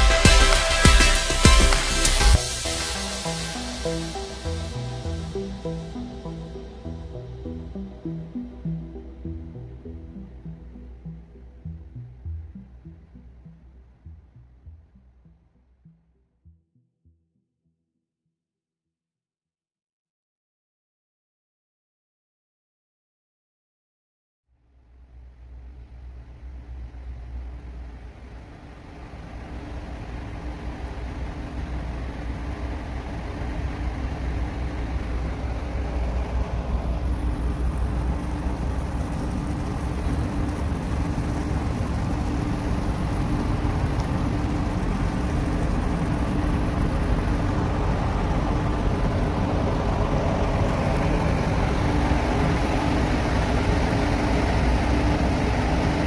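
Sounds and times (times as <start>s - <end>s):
ship diesel engines rumbling: 0.0s - 15.2s, 25.6s - 56.0s.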